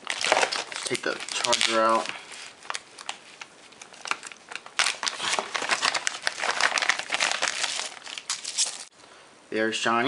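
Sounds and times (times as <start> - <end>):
plastic and bubble wrap crinkling: 0.0 - 8.9.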